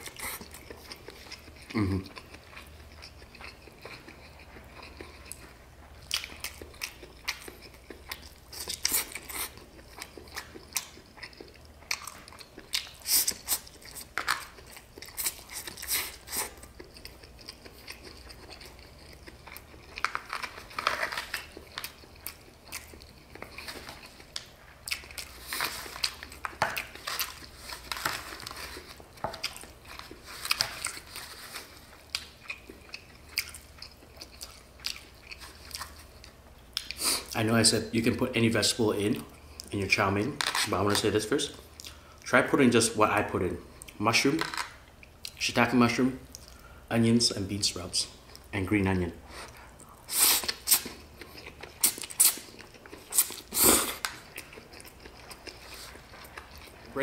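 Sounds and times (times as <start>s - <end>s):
person chewing noodles: 0.0s - 37.4s, 41.6s - 42.3s, 49.2s - 57.0s.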